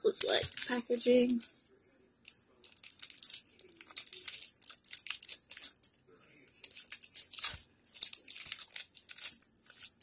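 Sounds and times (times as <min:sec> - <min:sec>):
wrapper crinkling and tearing: 0:00.0 - 0:01.6, 0:02.3 - 0:10.0.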